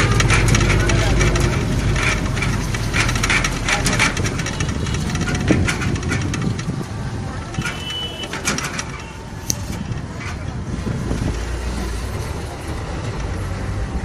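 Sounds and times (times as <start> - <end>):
rattles and knocks: 0.0 - 13.2
vehicle engine and road rumble: 0.0 - 14.0.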